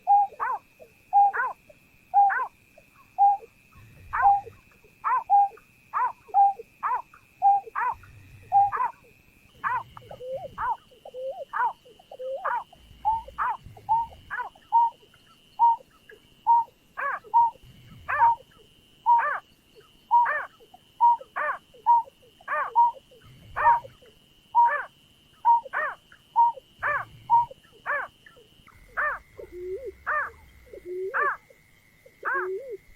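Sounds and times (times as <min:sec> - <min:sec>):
bird hooting calls: 0:00.0 - 0:32.9.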